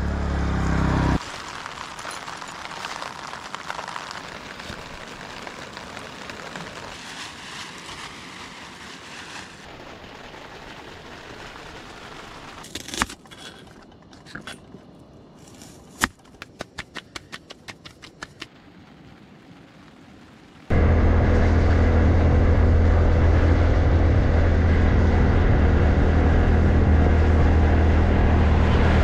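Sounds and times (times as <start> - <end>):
rain falling: 0.4 - 12.6, 16.7 - 29.0.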